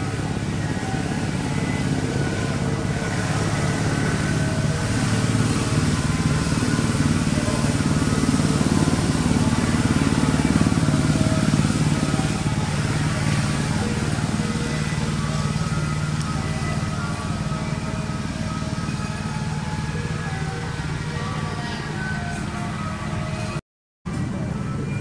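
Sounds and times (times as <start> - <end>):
small engine running: 0.0 - 23.6.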